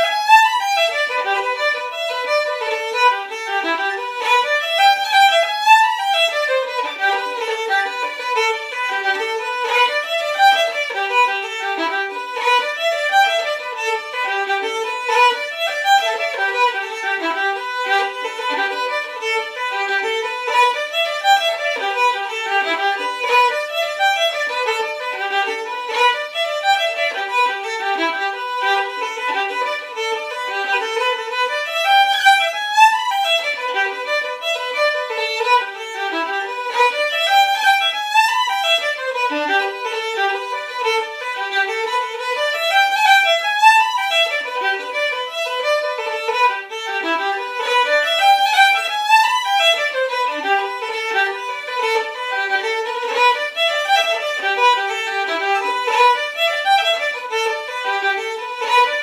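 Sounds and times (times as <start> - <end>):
solo fiddle playing a reel: 0.0 - 59.0.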